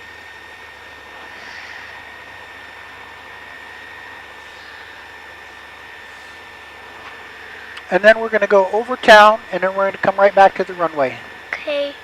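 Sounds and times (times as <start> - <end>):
small plane engine from cabin: 0.0 - 12.0.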